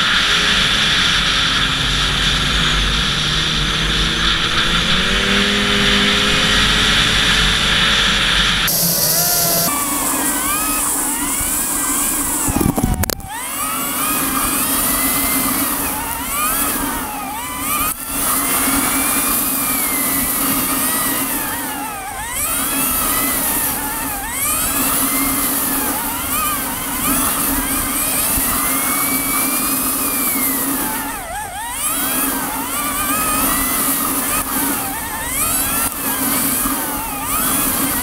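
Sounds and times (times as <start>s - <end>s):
snowmobile engine revving: 0.0s - 38.0s.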